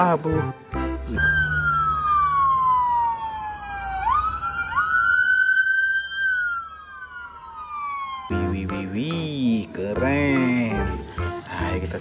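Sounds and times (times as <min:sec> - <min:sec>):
police sirens wailing: 0:00.0 - 0:12.0.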